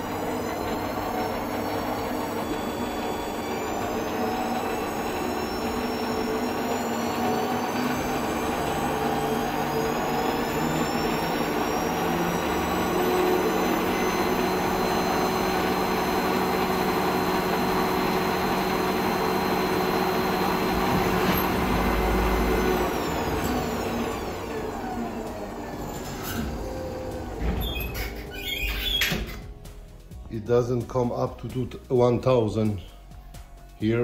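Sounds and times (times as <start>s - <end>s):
lathe motor whining: 0.0s - 29.6s.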